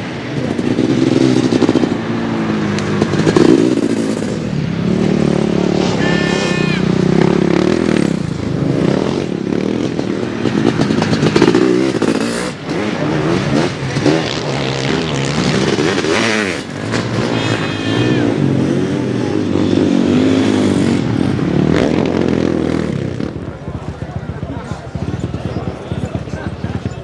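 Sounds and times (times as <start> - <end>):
motorcycle engines racing: 0.0 - 27.0.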